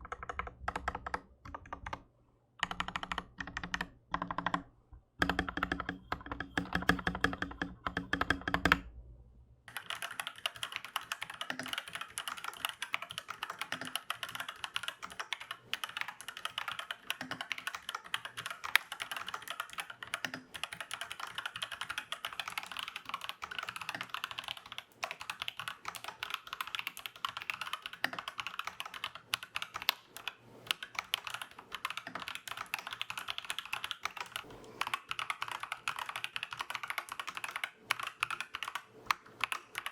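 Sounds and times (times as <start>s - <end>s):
typing on mechanical keyboard: 0.0s - 2.0s, 2.6s - 8.9s, 9.7s - 39.9s.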